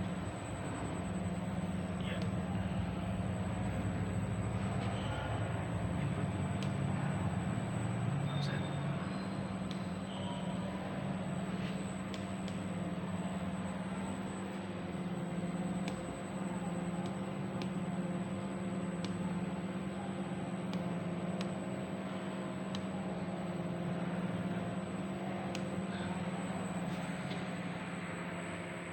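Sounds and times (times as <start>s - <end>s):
machine humming and whining: 0.0s - 28.9s.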